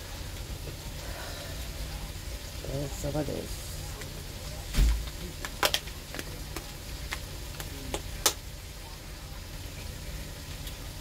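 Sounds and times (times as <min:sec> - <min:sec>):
low steady background hum: 0:00.0 - 0:11.0.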